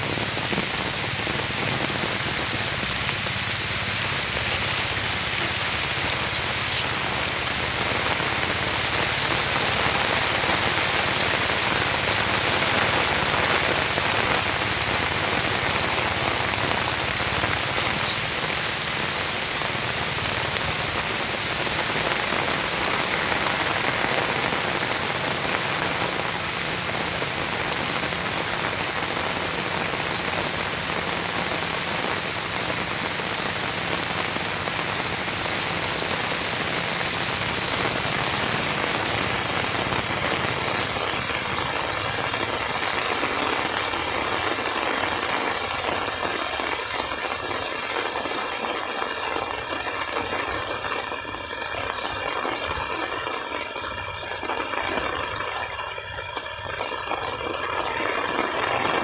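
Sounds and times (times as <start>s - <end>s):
rain falling on leaves and water: 0.0s - 59.0s.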